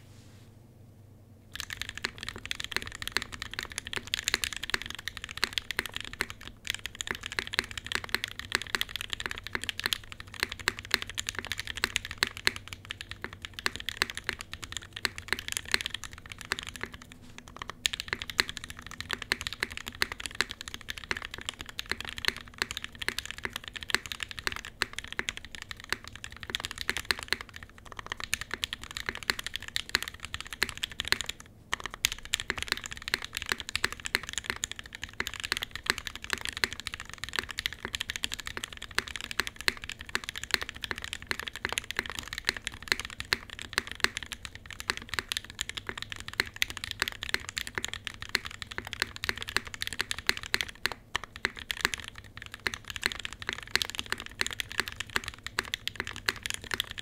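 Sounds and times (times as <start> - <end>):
fast mechanical keyboard typing: 1.5 - 57.0.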